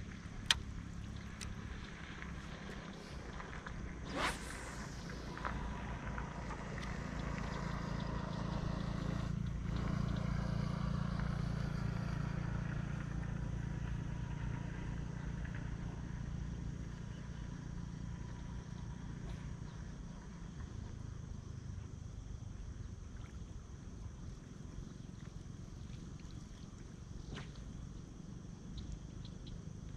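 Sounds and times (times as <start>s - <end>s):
engine humming: 0.0s - 29.9s.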